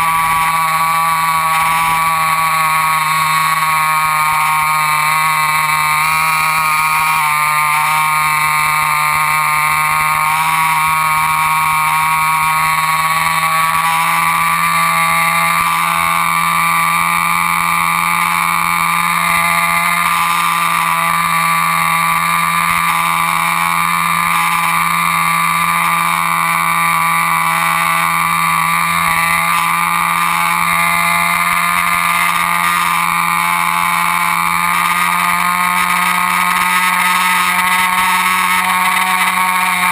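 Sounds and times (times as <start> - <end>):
model airplane motor droning: 0.0 - 39.9.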